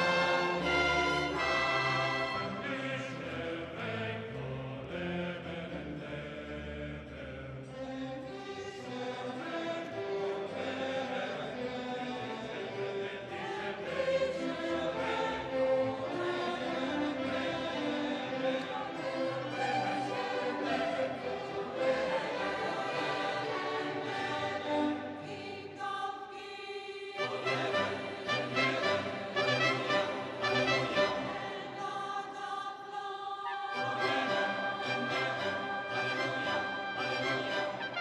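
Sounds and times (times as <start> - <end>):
slow choir and orchestra music: 0.0 - 38.0.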